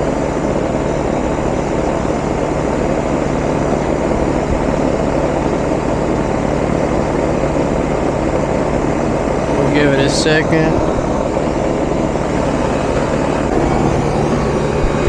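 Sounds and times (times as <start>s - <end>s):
air conditioner fan rushing: 0.0s - 15.0s
compressor hum: 0.0s - 15.0s.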